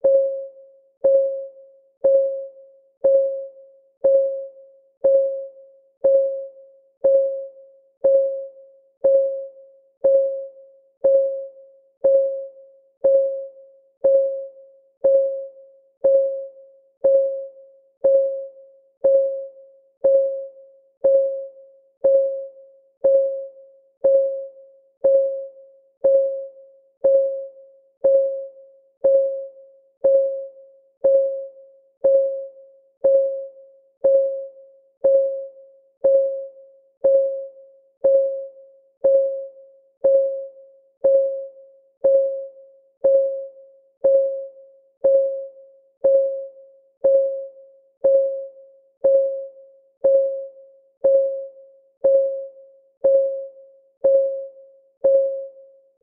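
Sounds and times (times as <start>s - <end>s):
electronic clock ticking: 0.0s - 55.7s.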